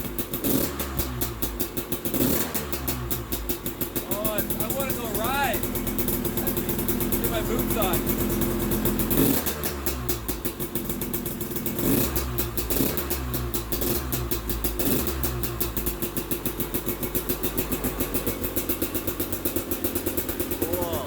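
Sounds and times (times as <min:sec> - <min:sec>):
dirt bike engine revving and idling: 0:00.0 - 0:21.0.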